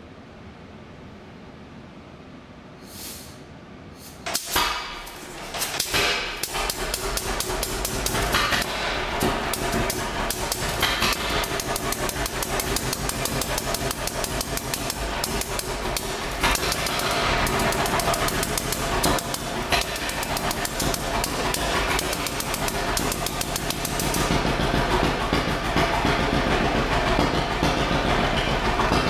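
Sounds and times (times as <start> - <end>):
tractor engine running: 4.3 - 29.0.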